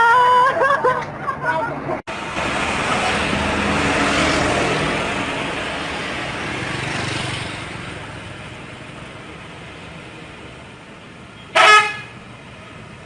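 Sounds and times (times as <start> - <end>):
tyre and road noise: 0.0 - 13.0
bus driving past: 1.2 - 13.0.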